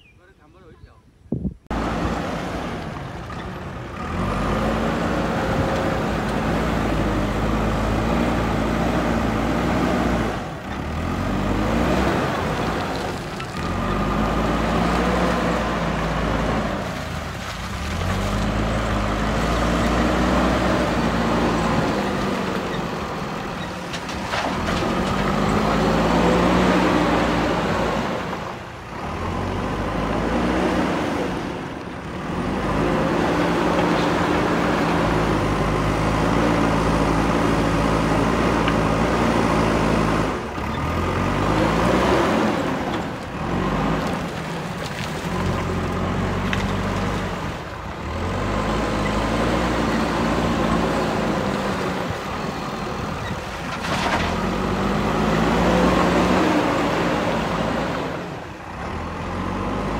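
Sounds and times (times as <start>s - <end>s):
diesel engine revving under load: 1.7s - 59.9s.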